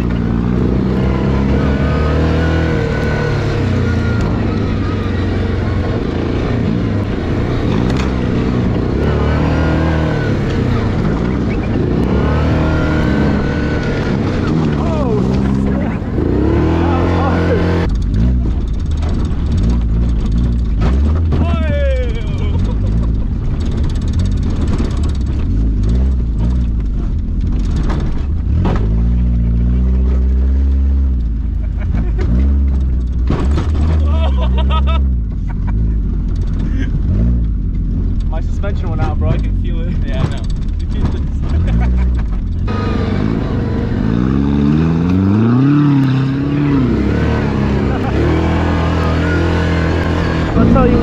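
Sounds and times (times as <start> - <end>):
car engine revving: 0.0 - 51.0
wind and road noise: 0.0 - 51.0.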